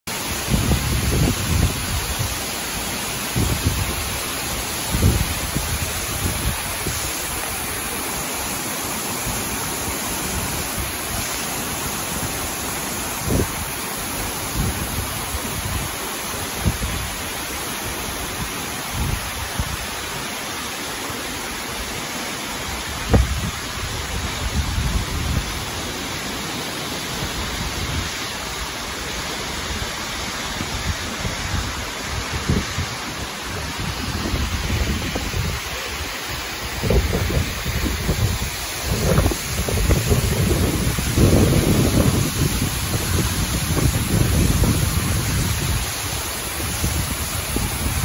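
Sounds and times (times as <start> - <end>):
waterfall rushing: 0.1 - 48.0.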